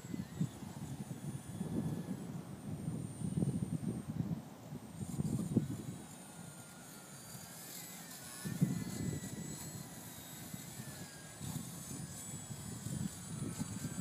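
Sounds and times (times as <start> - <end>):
wind buffeting microphone: 0.0 - 7.0, 7.6 - 14.0
rc plane electric motor whine: 0.0 - 14.0.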